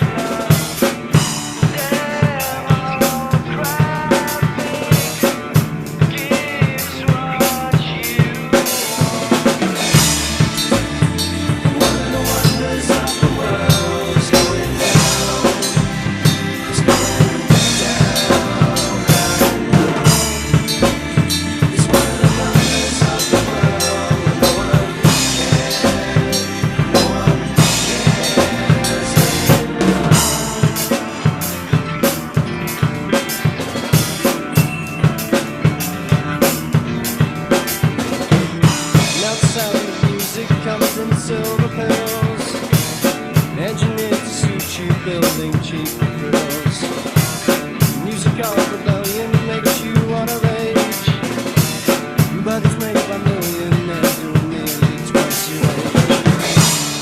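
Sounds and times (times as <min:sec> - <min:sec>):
full band music: 0:00.0 - 0:57.0
rock drum kit: 0:00.0 - 0:57.0.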